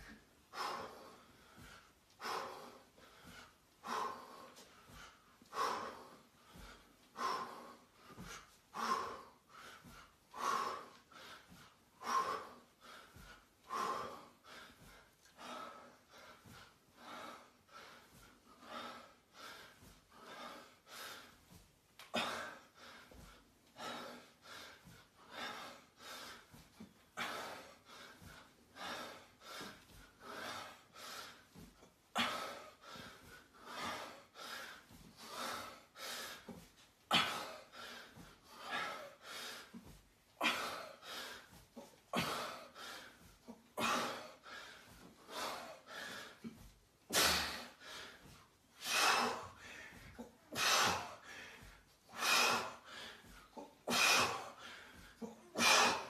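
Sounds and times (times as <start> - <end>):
man breathing forcefully: 0.0 - 56.0.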